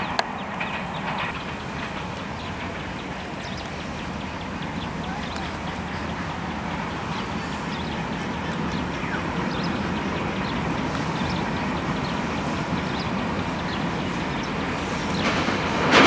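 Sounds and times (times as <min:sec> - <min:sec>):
bird calls: 0:00.0 - 0:16.0
diesel locomotive rumbling: 0:00.0 - 0:16.0.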